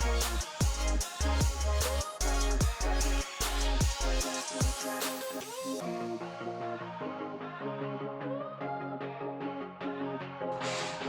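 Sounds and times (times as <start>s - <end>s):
electronic background music: 0.0s - 11.0s.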